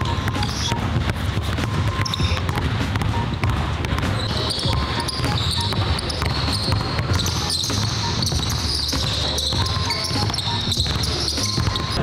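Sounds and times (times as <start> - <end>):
basketball dribbling on wooden floor: 0.0 - 12.0.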